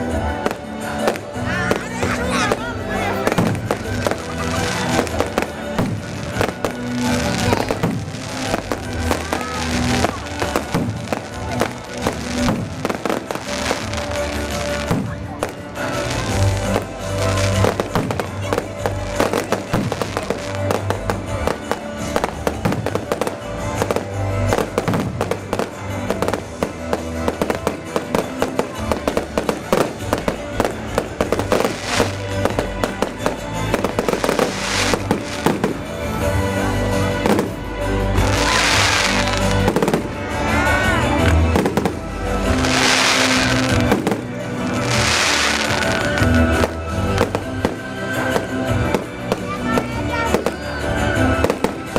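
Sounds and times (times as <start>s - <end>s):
fireworks bangs and crackles: 0.0s - 51.9s
fireworks hissing: 0.0s - 51.9s
loud music: 0.0s - 51.9s.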